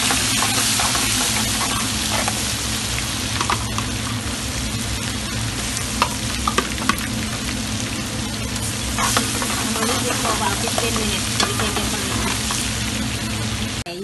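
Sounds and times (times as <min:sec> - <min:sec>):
seasoning sizzling in pot: 0:00.0 - 0:13.8.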